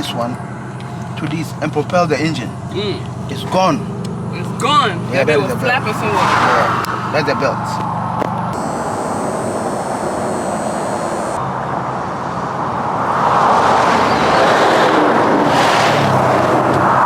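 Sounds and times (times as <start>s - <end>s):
highway traffic passing: 0.0s - 17.0s
vehicle passing close: 0.0s - 17.0s.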